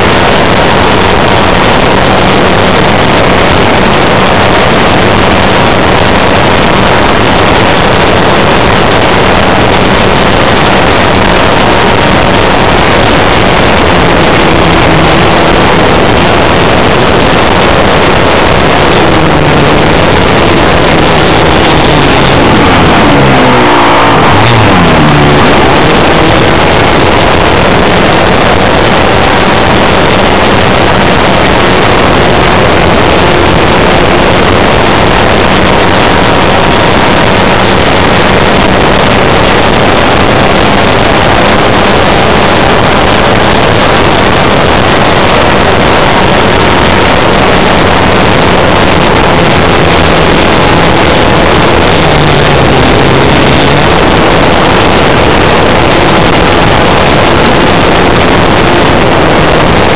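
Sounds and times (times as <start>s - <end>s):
model airplane engine running: 0.0s - 59.9s.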